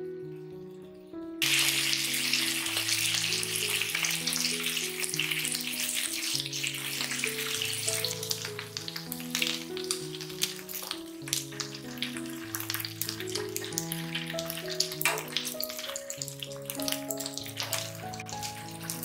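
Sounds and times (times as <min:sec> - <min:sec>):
soft background music: 0:00.0 - 0:19.0
chicken wings sizzling in oil: 0:01.4 - 0:19.0.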